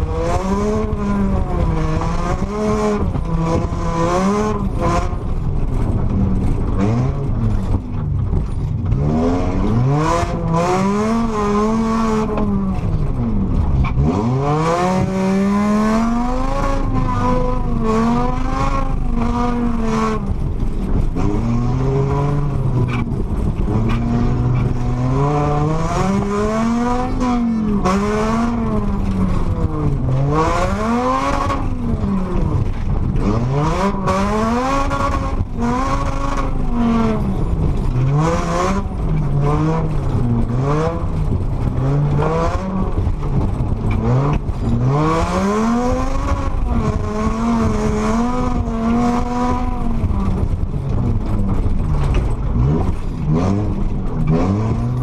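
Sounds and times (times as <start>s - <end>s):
car engine revving: 0.0s - 55.0s
tyre and gravel noise: 0.0s - 55.0s.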